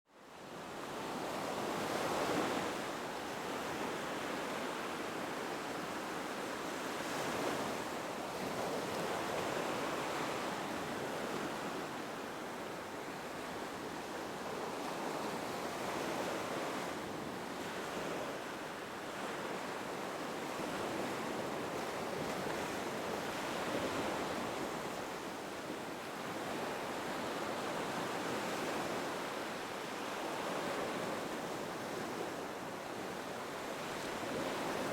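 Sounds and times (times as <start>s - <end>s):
ocean waves breaking on beach: 0.2s - 34.9s.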